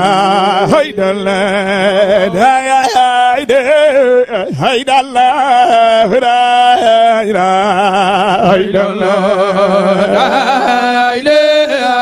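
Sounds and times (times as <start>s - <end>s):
man chanting into a microphone: 0.0s - 12.0s.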